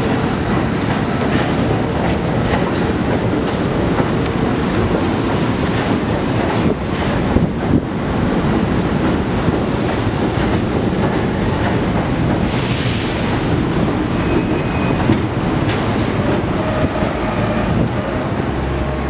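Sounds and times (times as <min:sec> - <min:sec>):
subway train rumbling past: 0:00.0 - 0:19.0
wheels clacking over rails: 0:00.0 - 0:19.0.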